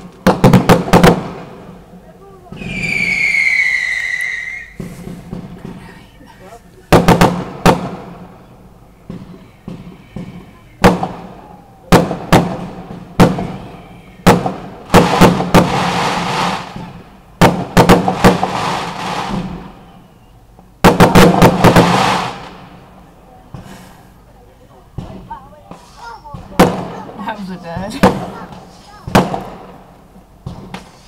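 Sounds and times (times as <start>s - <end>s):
fireworks bangs: 0.0s - 6.2s, 6.9s - 20.2s, 20.8s - 23.8s, 24.9s - 31.0s
crackling hiss of fireworks: 0.0s - 31.0s.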